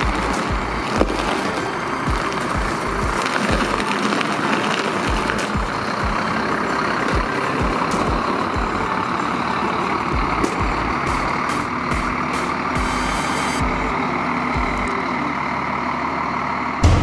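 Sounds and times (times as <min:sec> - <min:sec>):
low rhythmic thumps: 0:00.0 - 0:09.2, 0:10.0 - 0:14.0, 0:14.6 - 0:15.0
diesel engine running: 0:00.0 - 0:17.0.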